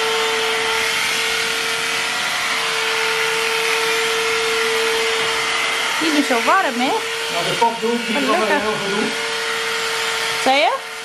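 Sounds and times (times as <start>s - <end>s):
electric clippers humming: 0.0s - 11.0s.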